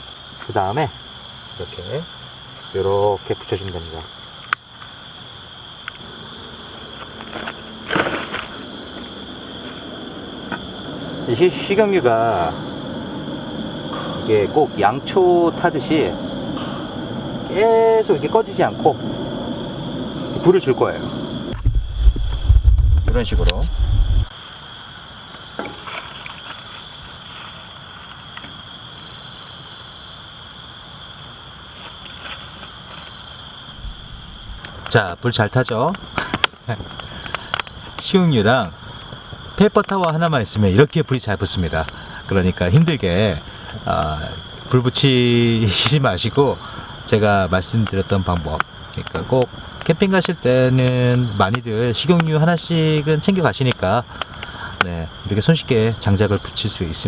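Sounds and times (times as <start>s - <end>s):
crickets chirring: 0.0s - 57.0s
fire crackling and rustling: 0.0s - 57.0s.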